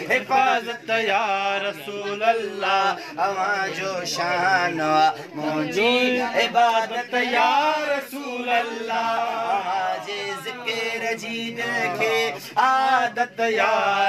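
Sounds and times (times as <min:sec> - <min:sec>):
men singing unaccompanied chant: 0:00.0 - 0:14.0.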